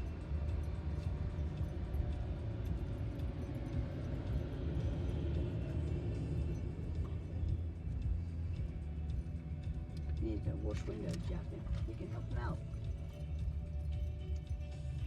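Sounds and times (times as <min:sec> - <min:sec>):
car engine rumble from inside cabin: 0:00.0 - 0:15.0.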